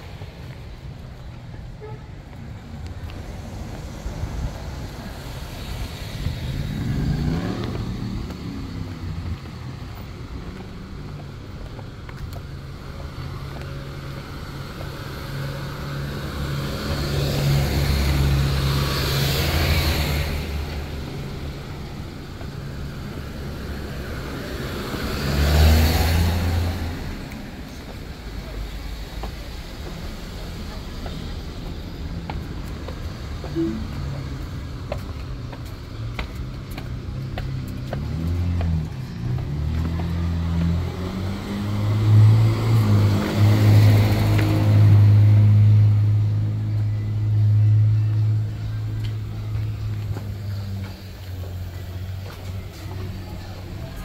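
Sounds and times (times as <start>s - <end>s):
cars passing close: 0.0s - 54.0s
engine hum of traffic: 0.0s - 54.0s.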